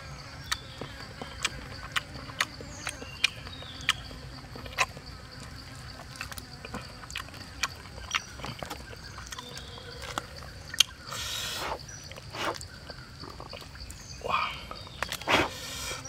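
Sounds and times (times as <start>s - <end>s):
faint insect hum: 0.0s - 16.0s.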